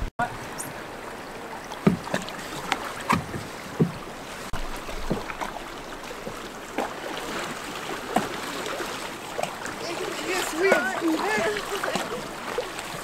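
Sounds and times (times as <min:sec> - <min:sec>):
river rushing: 0:00.0 - 0:13.0
paddle knocks and splashes: 0:01.6 - 0:13.0.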